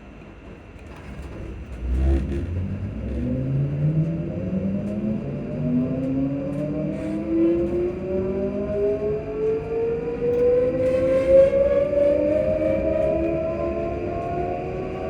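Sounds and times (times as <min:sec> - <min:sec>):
wheel and rail rumble: 0:00.0 - 0:15.0.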